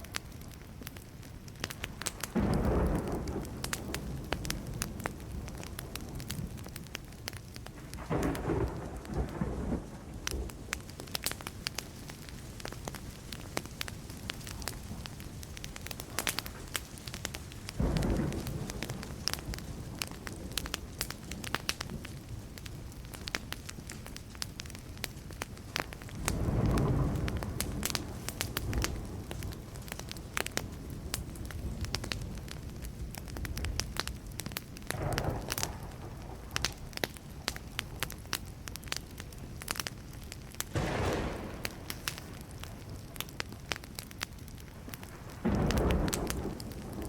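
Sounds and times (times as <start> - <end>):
wood fire crackling: 0.0 - 47.0
distant thunder rumbling: 1.9 - 22.4, 25.8 - 39.4, 40.6 - 47.0.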